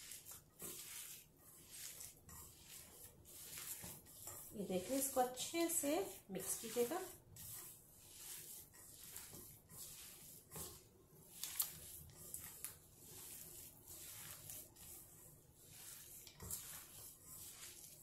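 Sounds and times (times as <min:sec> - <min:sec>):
hand squishing soft food mix: 0:00.0 - 0:18.0.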